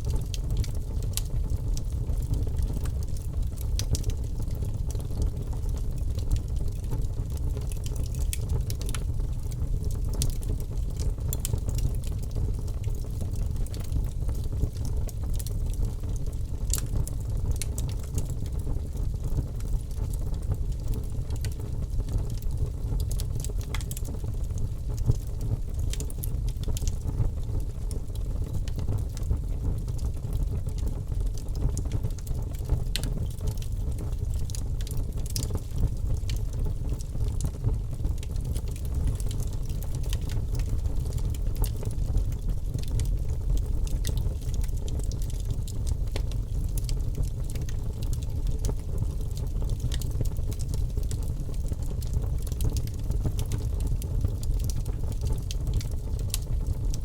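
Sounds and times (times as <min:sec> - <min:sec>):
fire crackles and pops: 0:00.0 - 0:57.0
low rumble of flame: 0:00.0 - 0:57.0.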